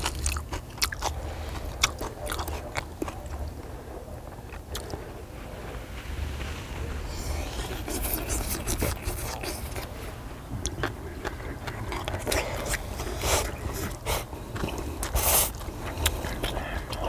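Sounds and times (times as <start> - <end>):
chewing: 0.0 - 5.2, 6.8 - 17.0
steady low hum: 0.0 - 17.0
steady low rumble: 0.0 - 17.0.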